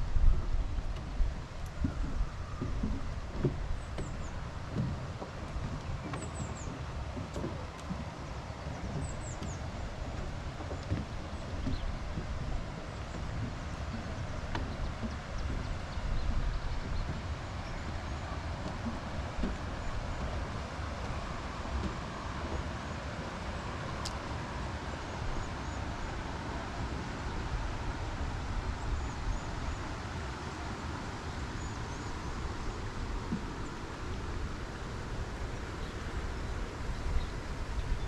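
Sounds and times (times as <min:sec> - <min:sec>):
wind on microphone: 0:00.0 - 0:38.0.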